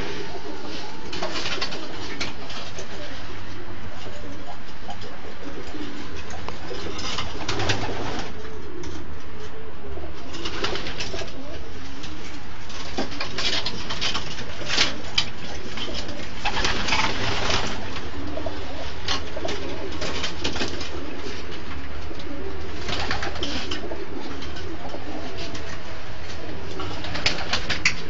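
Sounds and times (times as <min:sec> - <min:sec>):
pigeons cooing: 0:00.0 - 0:28.0
wings fluttering and rustling: 0:00.0 - 0:28.0.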